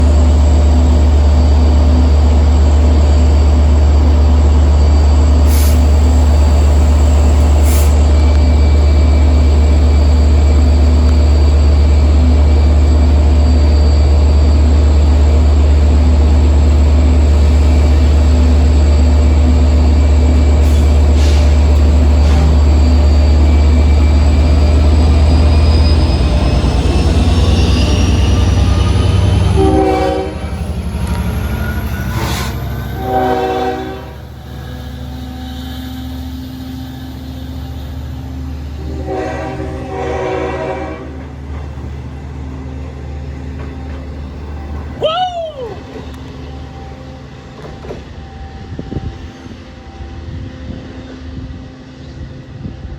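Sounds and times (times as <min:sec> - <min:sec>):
locomotive engine drone: 0:00.0 - 0:52.9
locomotive whine: 0:00.0 - 0:52.9.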